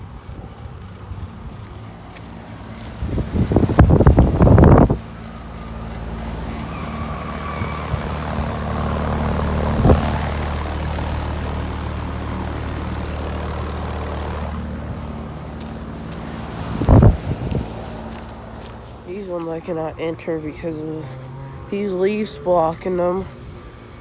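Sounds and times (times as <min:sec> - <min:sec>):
wind rumble on microphone: 0:00.0 - 0:20.1
air conditioning unit humming: 0:01.9 - 0:24.0.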